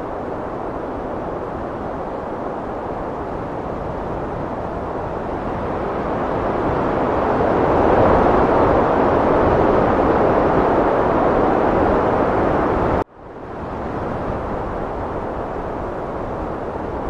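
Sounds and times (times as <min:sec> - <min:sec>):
heavy wind blowing: 0:00.0 - 0:17.0.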